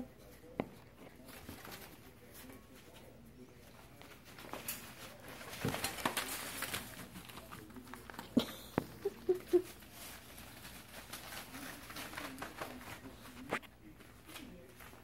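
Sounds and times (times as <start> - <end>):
dogs rustling on shredded paper: 1.1 - 15.0.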